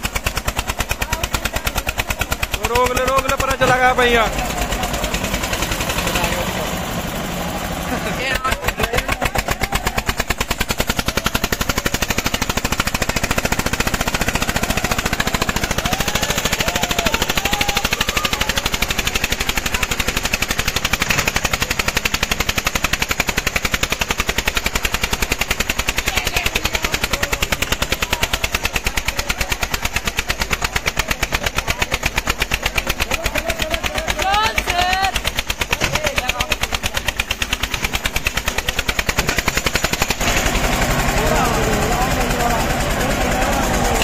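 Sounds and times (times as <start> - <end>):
tractor diesel engine at full throttle: 0.0 - 44.0.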